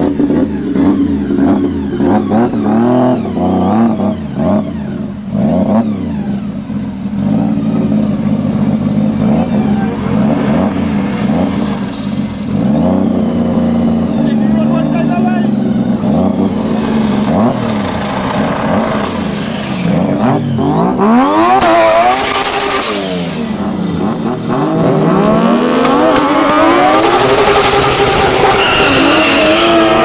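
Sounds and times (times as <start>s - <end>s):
car engines revving and accelerating: 0.0s - 30.0s.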